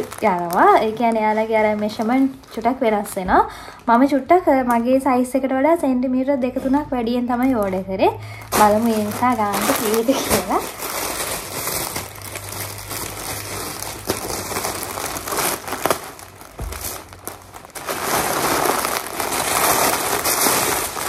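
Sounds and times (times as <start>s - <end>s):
plastic bag crinkling: 0.0s - 3.2s, 7.4s - 21.0s.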